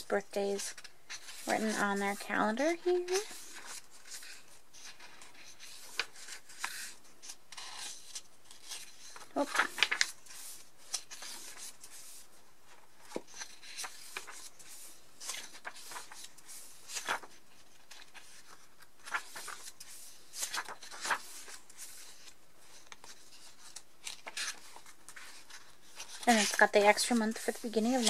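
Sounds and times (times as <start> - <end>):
paper pages turning: 0.0 - 28.0.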